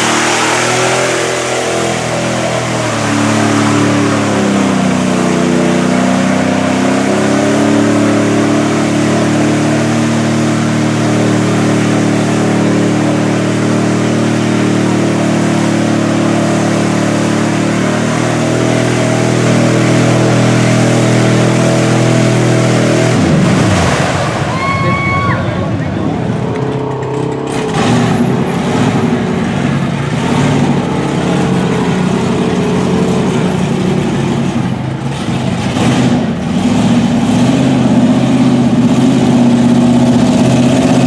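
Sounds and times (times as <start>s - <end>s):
mud and water rushing: 0.0s - 41.0s
truck engine revving: 0.0s - 41.0s.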